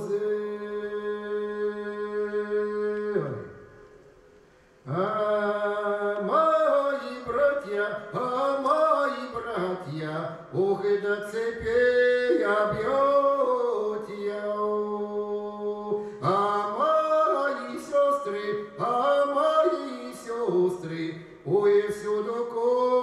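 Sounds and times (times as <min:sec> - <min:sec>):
man singing unaccompanied: 0:00.0 - 0:03.8, 0:04.8 - 0:23.0.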